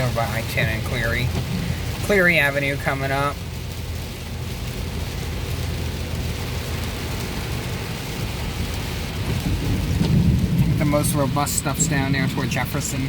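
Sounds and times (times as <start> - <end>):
rain hissing on a car: 0.0 - 13.0
thunder rumble: 0.0 - 13.0.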